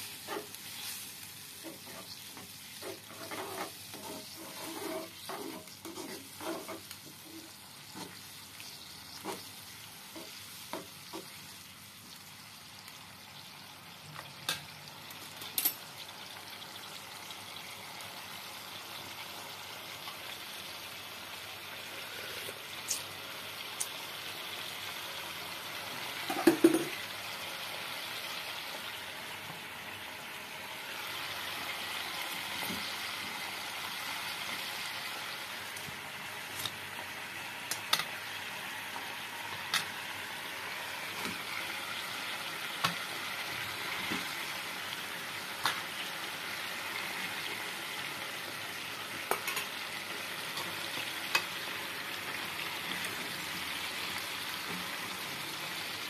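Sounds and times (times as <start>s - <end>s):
sauce sizzling in frying pan: 0.0s - 56.0s.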